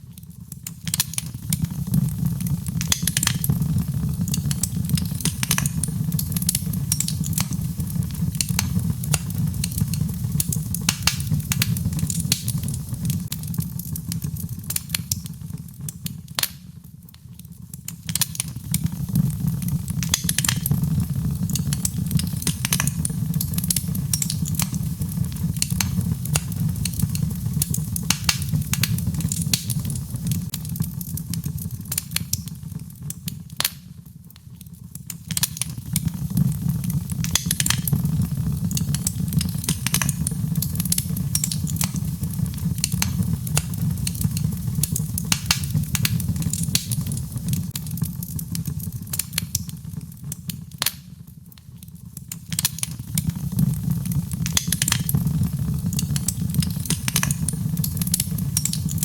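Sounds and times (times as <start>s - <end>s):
burning wood crackling and popping: 0.0s - 59.0s
low rumble of flames: 0.1s - 59.0s.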